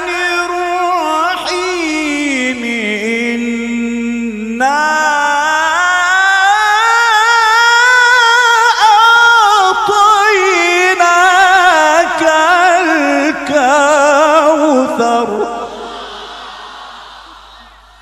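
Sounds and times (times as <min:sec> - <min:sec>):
man reciting melodically: 0:00.0 - 0:16.1.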